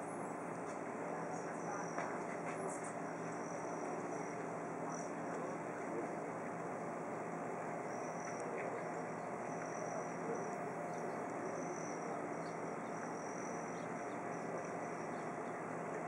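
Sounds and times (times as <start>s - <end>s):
ambient hiss: 0.0s - 16.0s.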